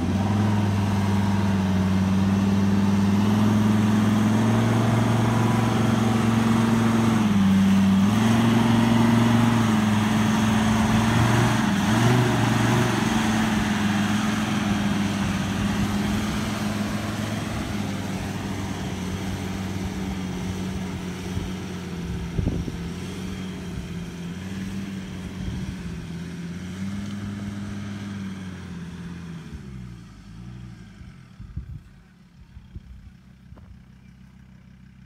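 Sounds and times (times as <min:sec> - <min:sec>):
truck engine pulling hard: 0:00.0 - 0:35.0.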